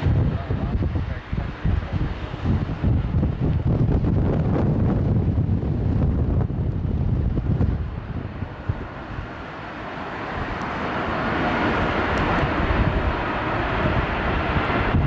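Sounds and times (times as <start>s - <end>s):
jet engines approaching: 0.0s - 15.0s
wind buffeting microphone: 0.0s - 15.0s.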